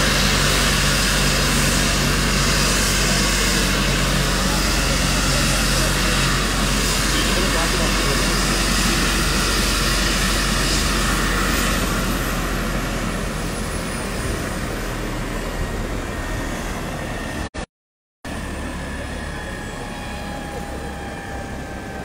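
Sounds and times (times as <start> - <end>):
helicopter winding down: 0.0 - 17.6, 18.3 - 22.0.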